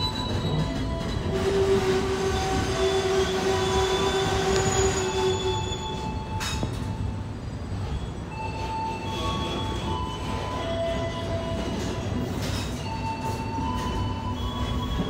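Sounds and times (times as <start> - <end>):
low train rumble: 0.0 - 15.0
train wheels squealing: 0.0 - 15.0.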